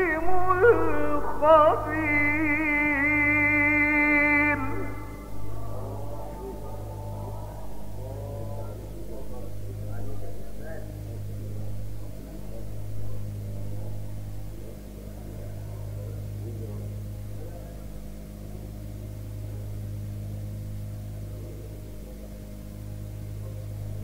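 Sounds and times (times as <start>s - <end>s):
electrical hum and hiss: 0.0s - 24.0s
faint murmur of voices: 0.0s - 24.0s.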